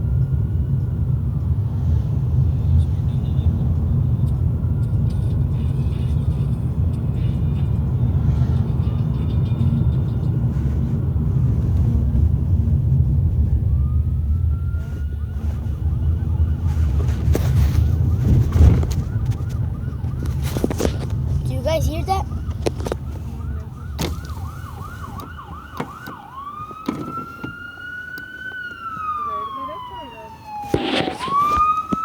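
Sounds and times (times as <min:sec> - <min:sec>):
distant ambulance siren wailing: 0:00.0 - 0:32.0
low rumble of street traffic: 0:00.0 - 0:32.0.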